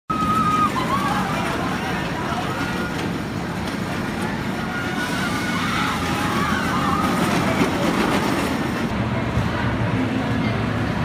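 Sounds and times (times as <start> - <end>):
roller coaster rumbling on track: 0.1 - 11.0.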